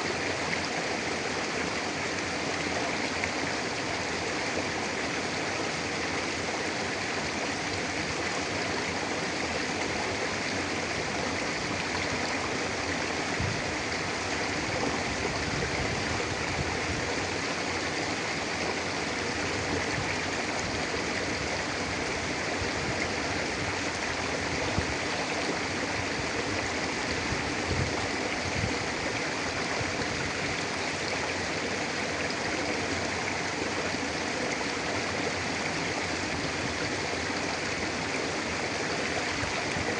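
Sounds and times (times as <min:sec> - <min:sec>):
river rushing over rocks: 0:00.0 - 0:39.9
water splashes: 0:00.0 - 0:39.9.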